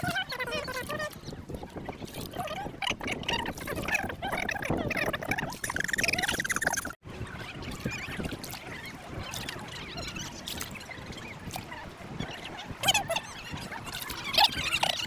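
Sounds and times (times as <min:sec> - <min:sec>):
water clicks and splashes: 0:00.0 - 0:15.0.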